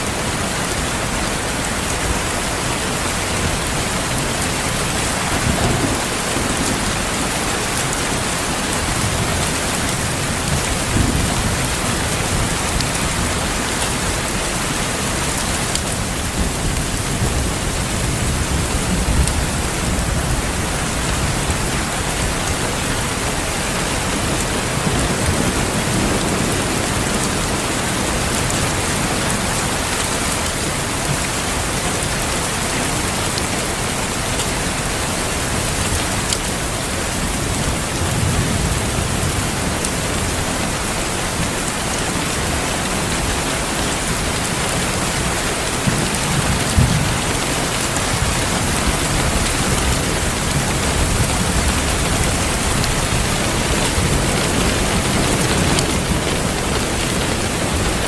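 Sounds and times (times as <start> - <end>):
thunder rumbling: 0.0 - 31.3, 34.9 - 58.0
heavy rain hissing: 0.0 - 58.0.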